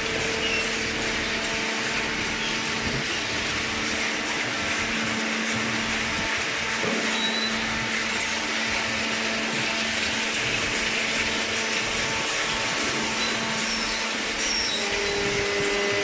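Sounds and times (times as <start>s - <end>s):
baler motor humming with hiss: 0.0s - 16.0s.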